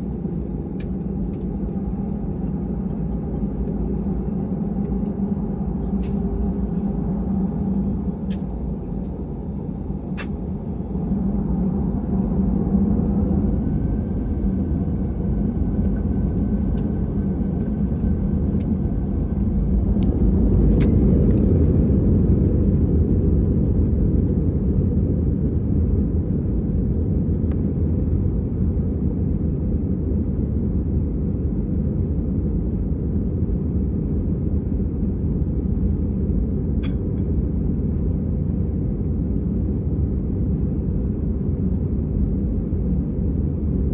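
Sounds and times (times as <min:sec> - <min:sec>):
engine and runway rumble: 0:00.0 - 0:43.9.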